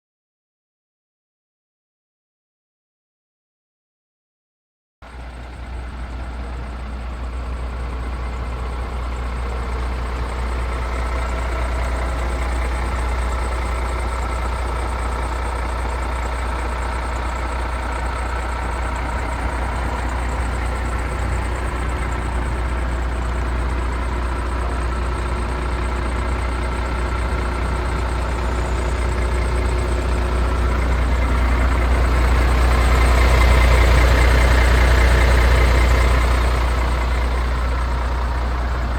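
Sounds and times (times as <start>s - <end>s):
diesel truck engine idling: 5.0s - 38.9s.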